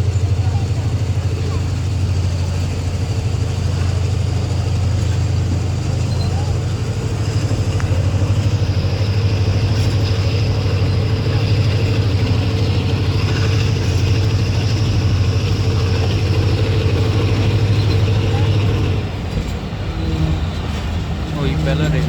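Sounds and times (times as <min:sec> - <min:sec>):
express train running at speed: 0:00.0 - 0:22.0.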